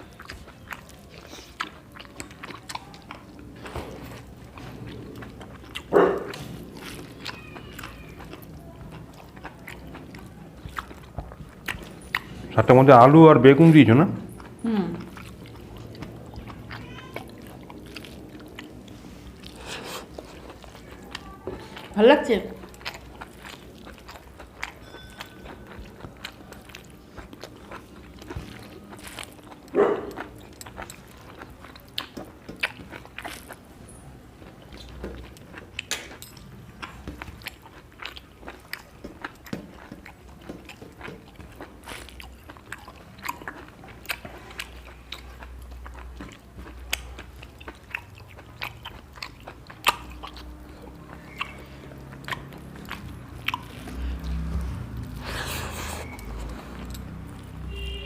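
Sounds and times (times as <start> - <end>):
chewing and mouth smacks: 0.0 - 12.6, 14.2 - 58.0.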